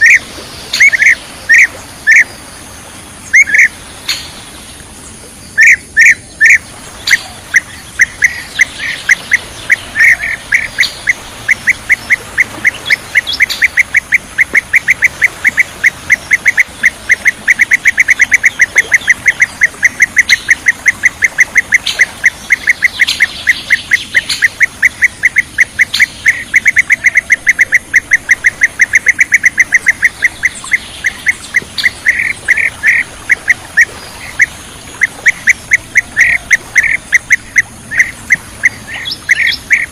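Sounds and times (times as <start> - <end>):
bird chirping rapidly: 0.0 - 2.4, 3.2 - 4.4, 5.4 - 39.9.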